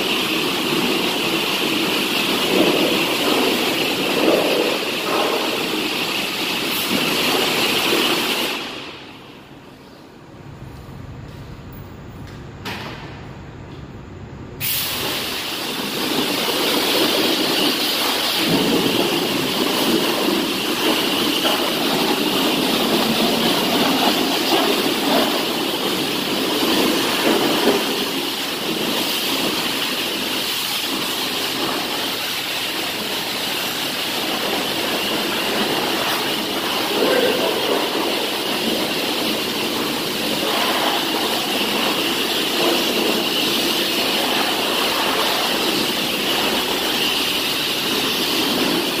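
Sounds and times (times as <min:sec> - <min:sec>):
pressure washer spraying water: 0:00.0 - 0:10.0, 0:14.6 - 0:49.0.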